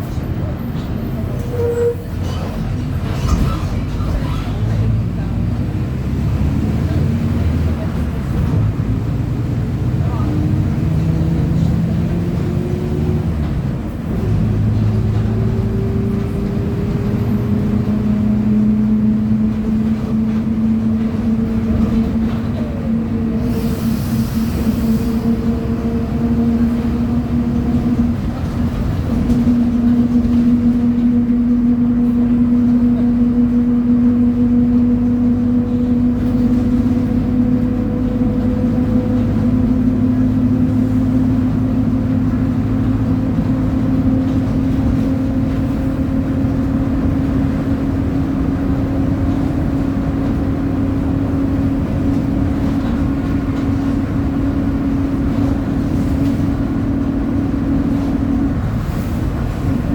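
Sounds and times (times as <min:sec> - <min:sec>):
bus diesel engine whining: 0:00.0 - 0:59.9.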